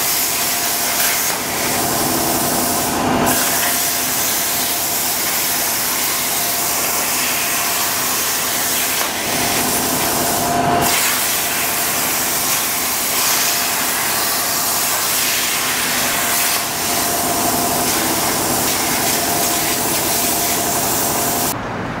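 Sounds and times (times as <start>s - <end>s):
plasma torch hissing: 0.0s - 21.6s.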